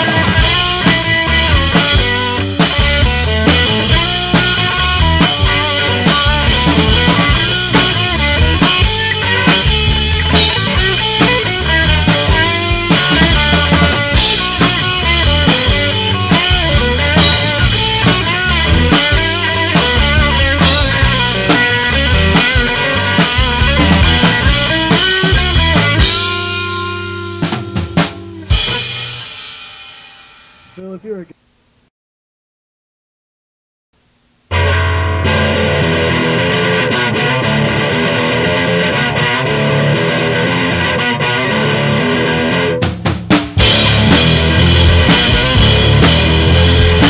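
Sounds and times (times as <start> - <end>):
bass guitar: 0.0 - 29.5, 34.5 - 47.0
electric guitar: 0.0 - 30.9, 34.5 - 47.0
drum kit: 0.0 - 31.3, 34.5 - 47.0.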